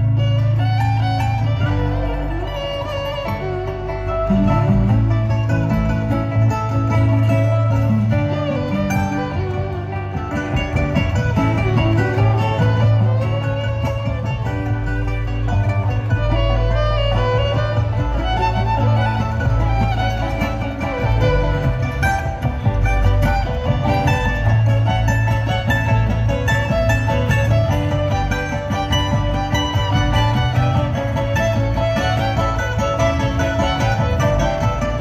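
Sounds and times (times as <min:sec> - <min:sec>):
bluegrass band playing: 0:00.0 - 0:35.0
bowed fiddle: 0:00.0 - 0:35.0.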